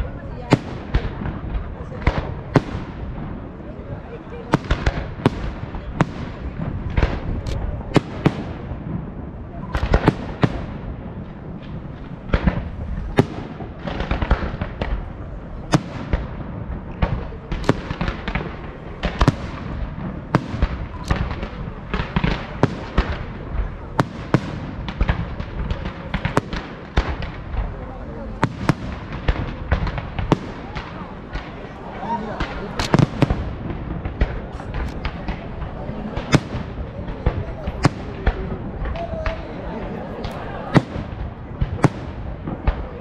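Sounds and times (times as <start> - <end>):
fireworks bangs: 0.0 - 43.0.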